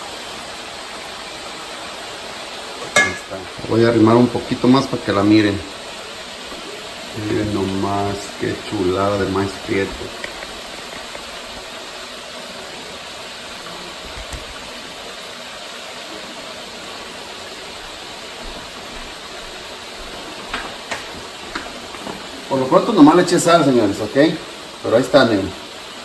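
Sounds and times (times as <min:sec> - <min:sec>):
meat sizzling in hot fat: 0:00.0 - 0:26.0.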